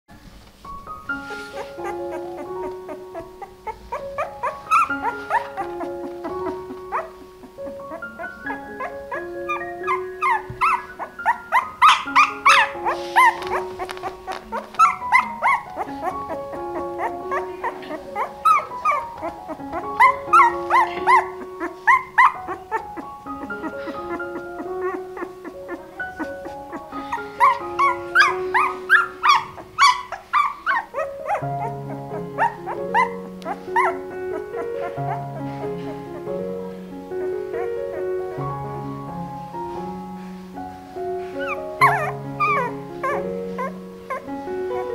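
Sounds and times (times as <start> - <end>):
background music with held notes: 0.1 - 44.9
puppy squealing: 1.5 - 36.3, 37.2 - 38.5, 41.4 - 44.9.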